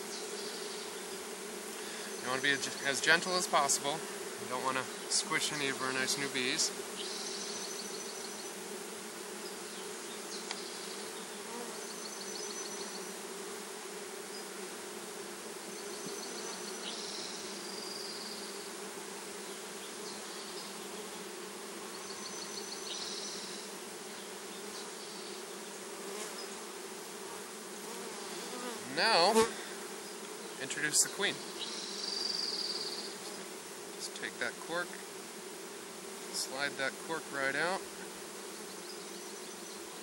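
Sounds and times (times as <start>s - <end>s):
honeybees humming: 0.0s - 40.0s.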